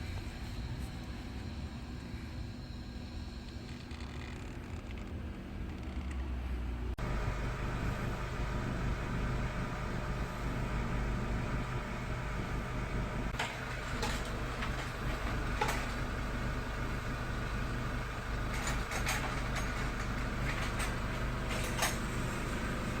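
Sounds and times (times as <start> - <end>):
car running hum: 3.6 - 23.0.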